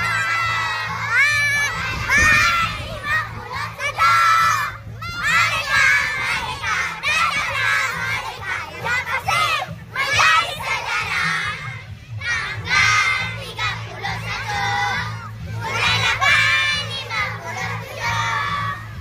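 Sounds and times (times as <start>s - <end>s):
children shouting and cheering: 0.0s - 19.0s.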